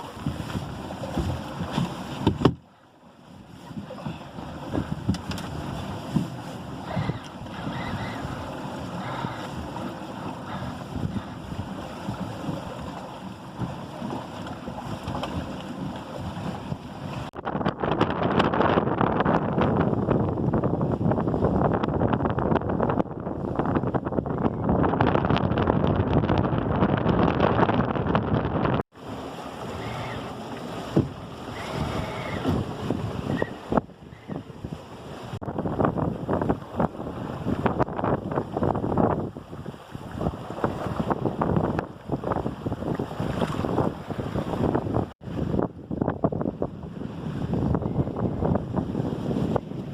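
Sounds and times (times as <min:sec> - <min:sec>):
wind buffeting microphone: 0:00.0 - 0:02.6, 0:03.4 - 0:49.9
wind and water rushing past boat: 0:00.0 - 0:49.9.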